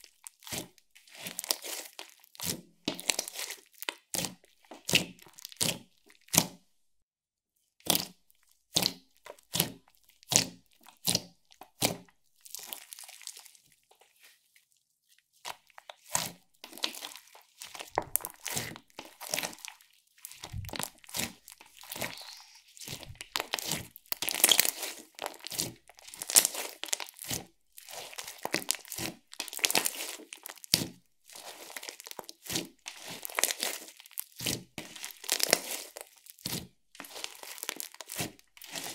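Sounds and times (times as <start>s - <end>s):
slime clicking and squishing: 0.0s - 6.6s, 7.8s - 14.3s, 15.4s - 38.9s.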